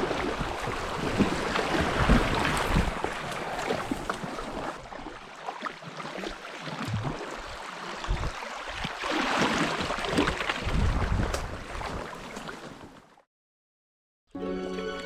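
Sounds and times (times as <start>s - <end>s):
water splashing around a boat: 0.0s - 13.3s.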